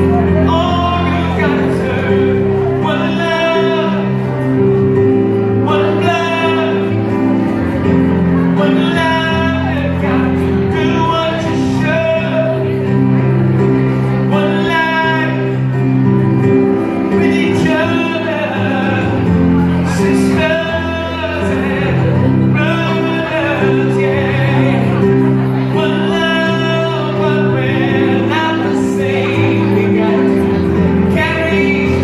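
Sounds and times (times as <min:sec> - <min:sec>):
instrumental held chords: 0:00.0 - 0:32.0
man singing into a microphone: 0:00.0 - 0:32.0.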